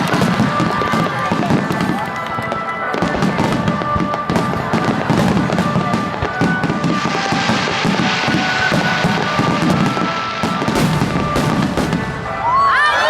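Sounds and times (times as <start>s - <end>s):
fireworks cracking and popping: 0.0s - 12.9s
music playing: 0.0s - 13.0s.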